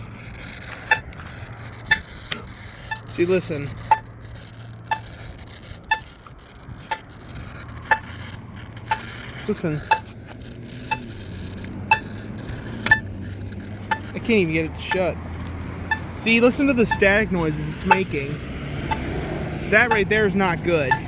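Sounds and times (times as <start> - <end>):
pushbutton locator tone ticking: 0.0 - 21.0.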